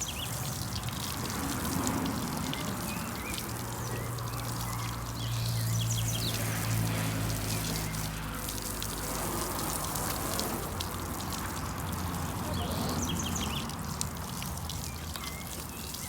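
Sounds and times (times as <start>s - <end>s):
hose water spraying and splashing: 0.0s - 16.0s.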